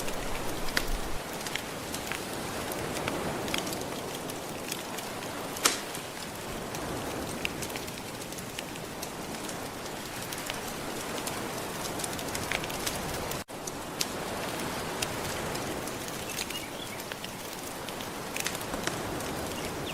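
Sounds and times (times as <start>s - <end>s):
gentle ocean surf: 0.0s - 19.9s
wood fire crackling: 0.0s - 19.9s.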